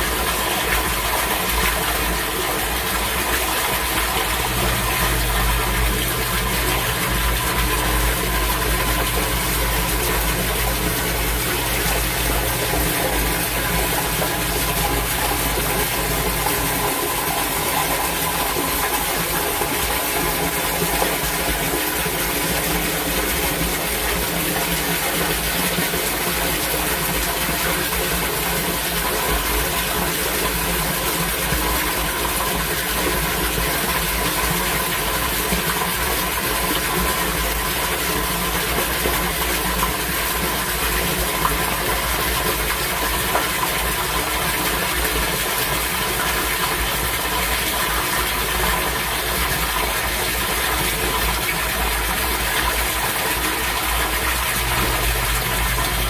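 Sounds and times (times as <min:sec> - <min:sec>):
stormwater gushing through drain: 0:00.0 - 0:56.0.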